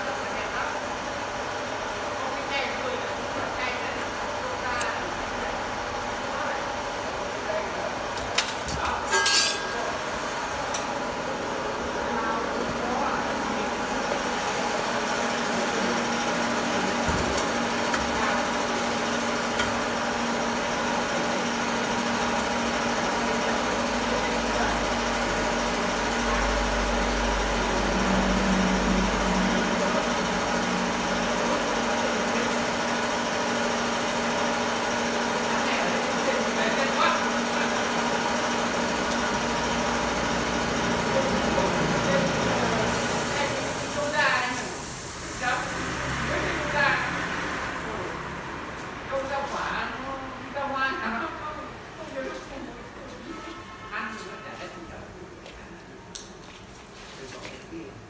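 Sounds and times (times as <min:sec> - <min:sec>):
machine hum: 0:00.0 - 0:49.2.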